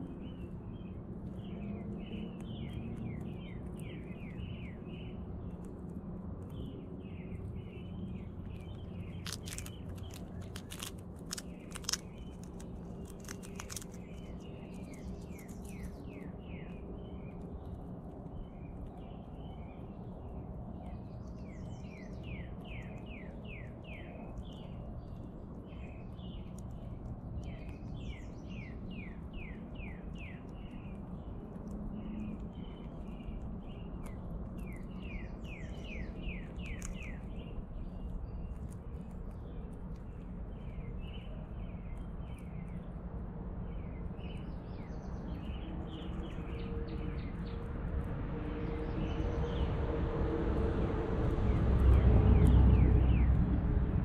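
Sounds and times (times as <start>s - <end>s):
low background rumble: 0.0s - 54.0s
songbirds chirping: 0.0s - 54.0s.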